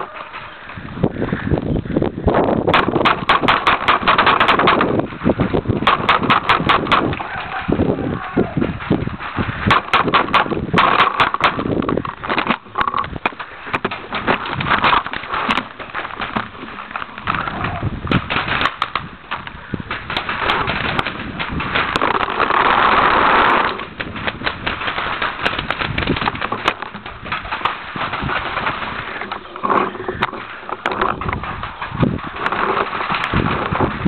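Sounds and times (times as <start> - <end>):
paintball markers firing: 2.7 - 34.0
grass scraping against camera: 2.8 - 34.0.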